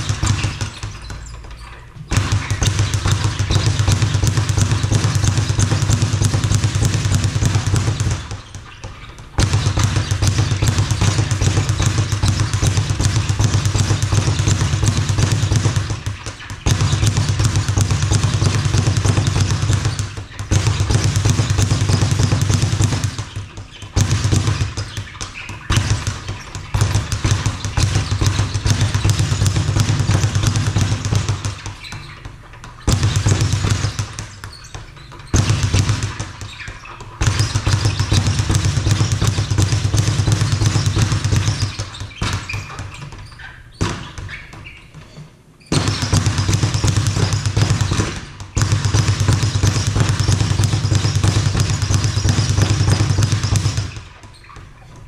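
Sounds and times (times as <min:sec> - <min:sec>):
speed bag rattling: 0:00.0 - 0:43.2, 0:45.7 - 0:55.0.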